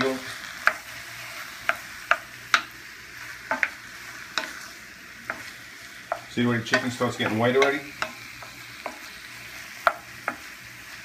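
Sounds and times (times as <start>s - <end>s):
meat sizzling in a skillet: 0.0s - 11.0s
wooden spatula scraping a pan: 0.0s - 11.0s.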